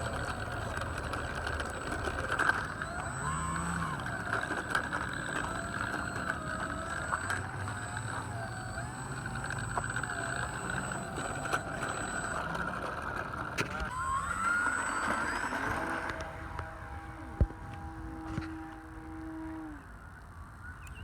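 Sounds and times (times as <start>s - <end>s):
rc plane electric motor whine: 0.0s - 21.0s.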